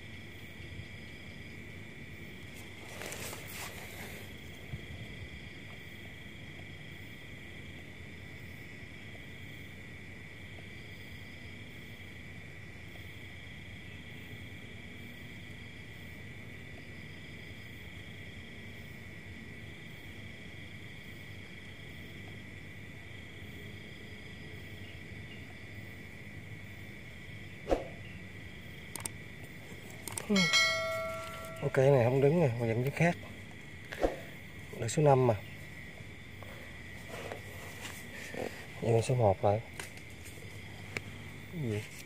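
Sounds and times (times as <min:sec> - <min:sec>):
high-pitched insect drone: 0:00.0 - 0:39.7
higher insect trill: 0:00.0 - 0:42.0.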